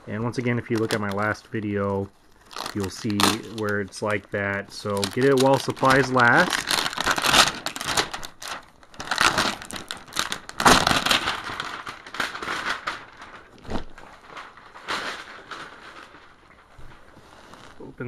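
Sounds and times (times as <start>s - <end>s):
packaging crinkling: 0.0s - 17.8s.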